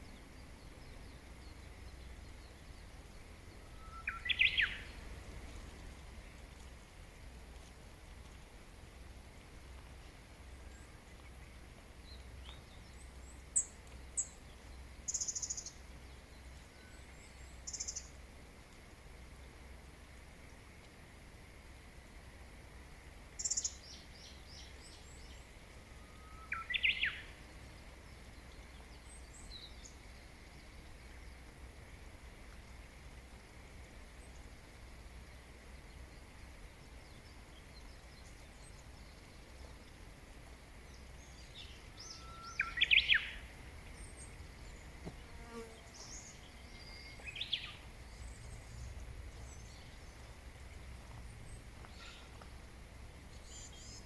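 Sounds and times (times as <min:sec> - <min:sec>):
faint background rumble: 0:00.0 - 0:26.0, 0:27.2 - 0:54.0.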